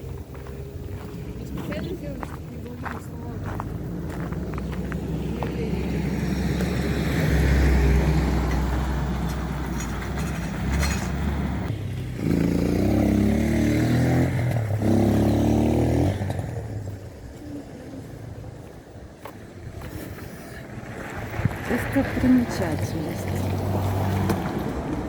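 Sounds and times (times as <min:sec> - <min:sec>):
vehicle engine passing by: 0:00.0 - 0:18.6, 0:19.8 - 0:25.0.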